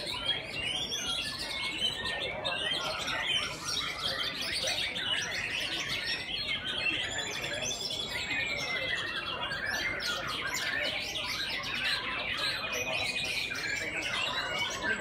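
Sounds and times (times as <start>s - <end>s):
birds singing in chorus: 0.0s - 15.0s.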